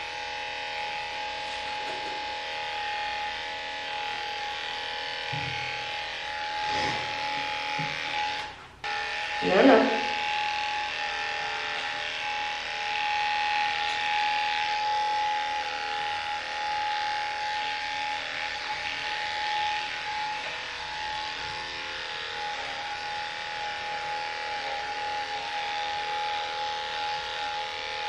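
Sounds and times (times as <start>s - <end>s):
electric clippers humming: 0.0s - 28.0s.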